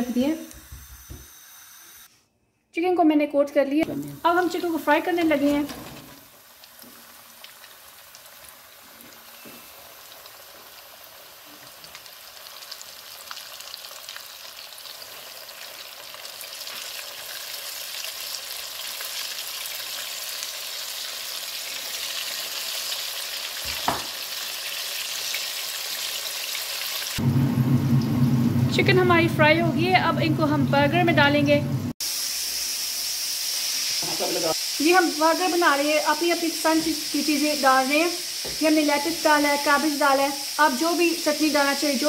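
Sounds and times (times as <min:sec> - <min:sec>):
chicken frying in hot oil: 0:04.2 - 0:28.7, 0:32.0 - 0:42.0.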